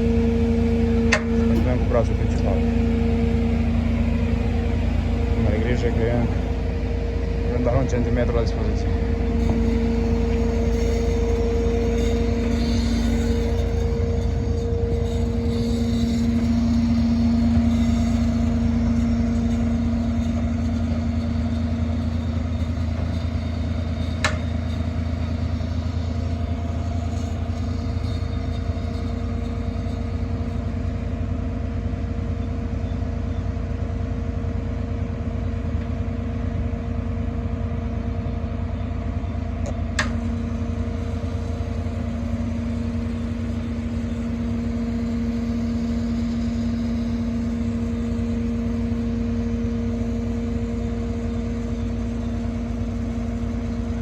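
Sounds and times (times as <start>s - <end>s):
engine and hydraulic pump humming: 0.0s - 54.0s.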